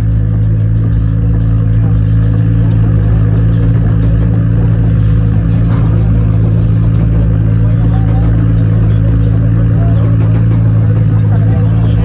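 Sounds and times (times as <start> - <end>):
car engine running loudly: 0.0 - 12.0.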